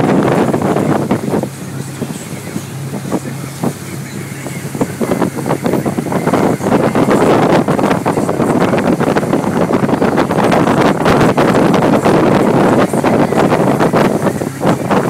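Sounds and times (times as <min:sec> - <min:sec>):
boat engine running: 0:00.0 - 0:15.0
wake churning: 0:00.0 - 0:15.0
wind buffeting microphone: 0:00.0 - 0:15.0.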